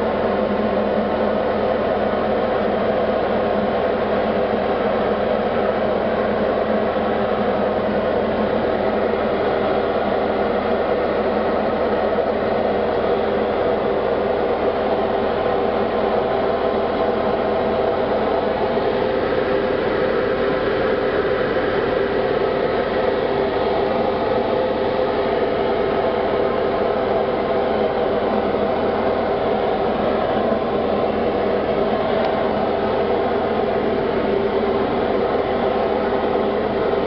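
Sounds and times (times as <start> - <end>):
aircraft engine drone in cockpit: 0.0 - 37.0.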